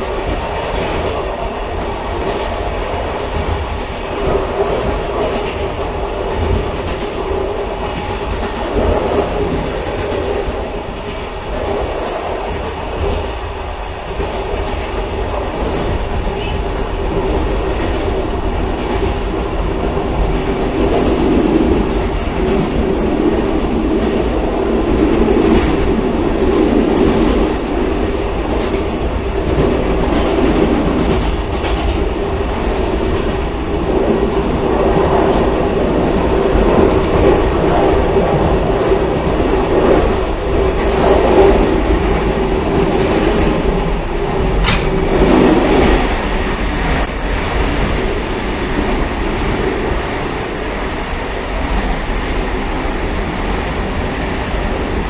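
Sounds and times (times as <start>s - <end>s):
railcar hum: 0.0s - 55.0s.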